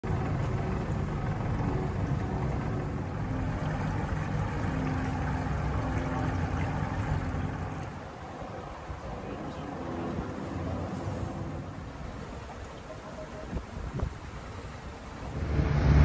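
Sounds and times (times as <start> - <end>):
outboard motors droning: 0.0 - 16.0.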